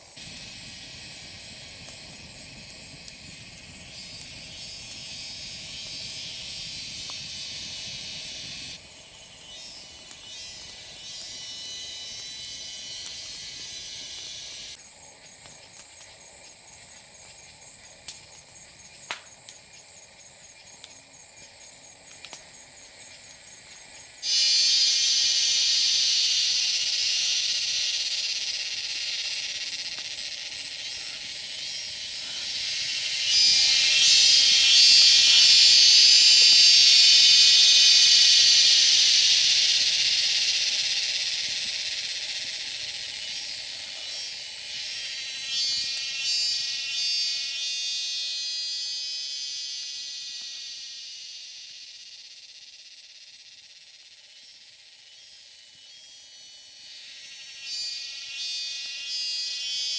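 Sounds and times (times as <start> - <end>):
cicadas buzzing: 0.0 - 59.9
faint high insect hum: 0.0 - 59.9.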